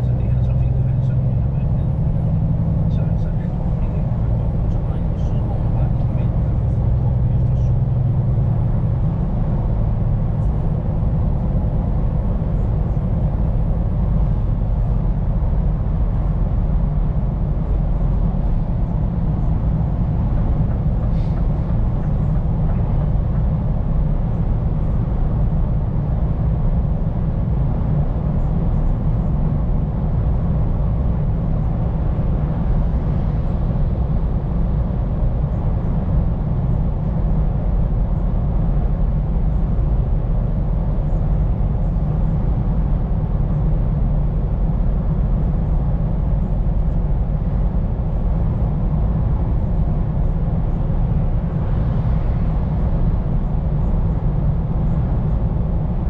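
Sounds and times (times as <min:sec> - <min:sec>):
diesel engine drone: 0:00.0 - 0:56.0
road and tyre noise: 0:00.0 - 0:56.0.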